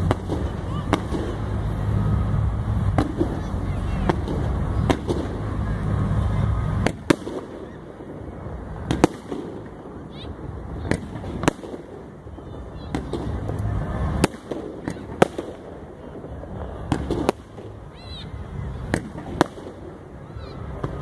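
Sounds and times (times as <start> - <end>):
fireworks bangs: 0.0 - 21.0
low steady rumble: 0.0 - 21.0.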